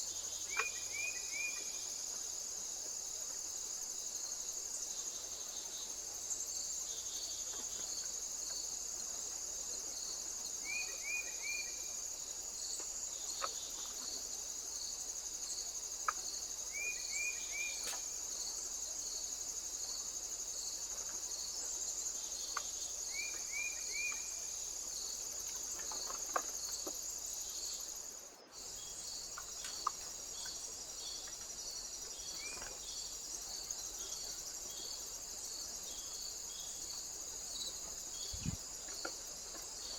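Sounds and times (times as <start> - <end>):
crickets trilling: 0.0 - 39.9
pulsing insect: 0.0 - 39.9.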